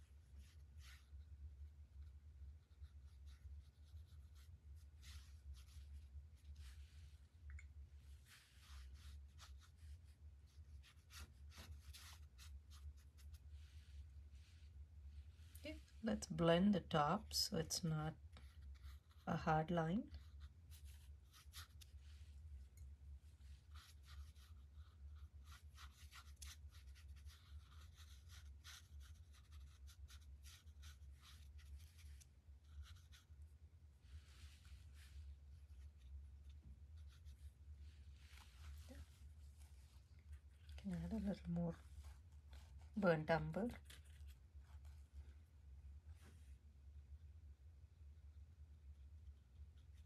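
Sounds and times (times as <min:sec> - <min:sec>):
paintbrush strokes on paper: 0:00.0 - 0:45.4
low steady hum: 0:00.0 - 0:50.0.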